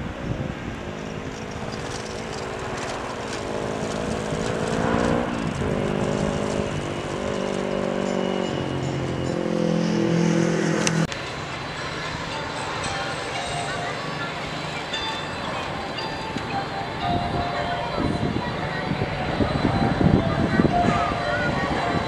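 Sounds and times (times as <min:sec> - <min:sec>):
small motorcycle riding past: 0:00.1 - 0:22.0.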